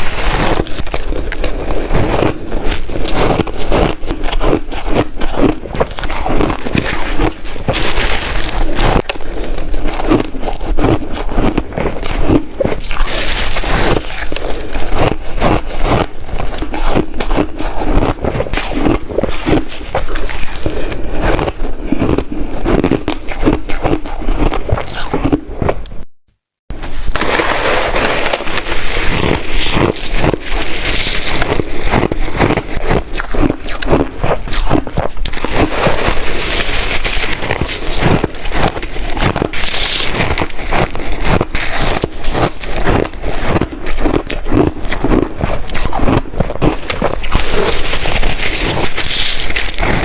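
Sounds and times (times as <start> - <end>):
chewing hard ice: 0.0 - 26.1, 27.1 - 50.0.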